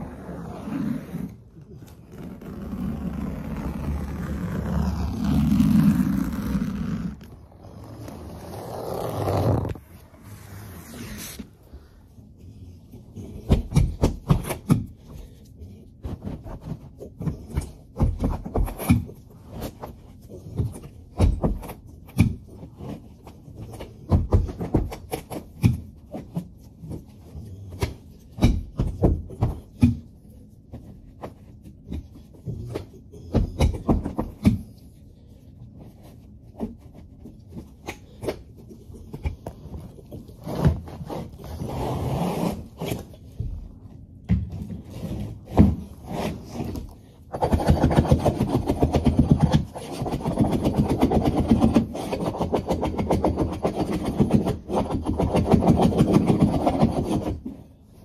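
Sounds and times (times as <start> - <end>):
carpet scraping and rubbing: 0.0 - 14.7, 15.9 - 29.7, 35.6 - 57.7.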